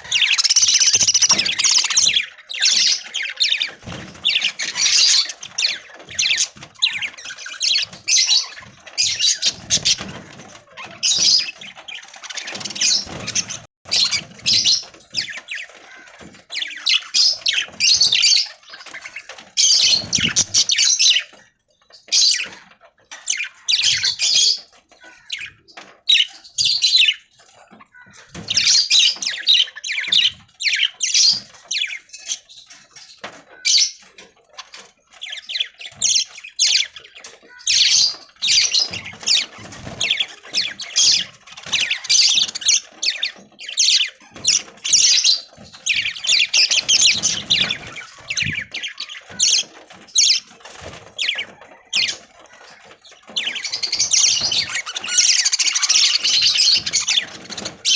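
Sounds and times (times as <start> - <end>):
budgies chattering and squawking: 0.0 - 57.9.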